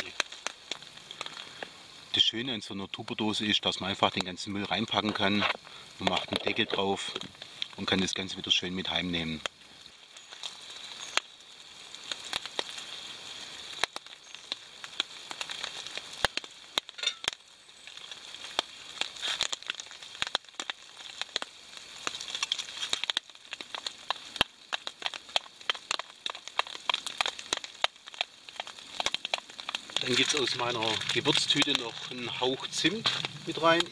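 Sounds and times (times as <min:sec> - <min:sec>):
faint hiss: 0:00.0 - 0:33.9.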